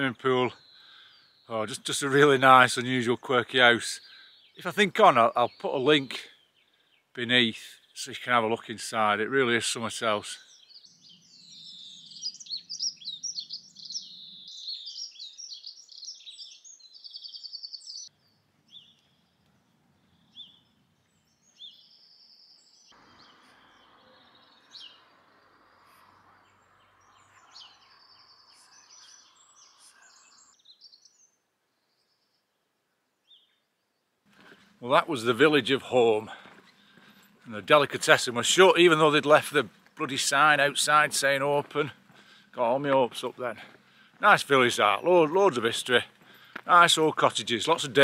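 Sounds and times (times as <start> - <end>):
songbirds singing: 0.0 - 48.0.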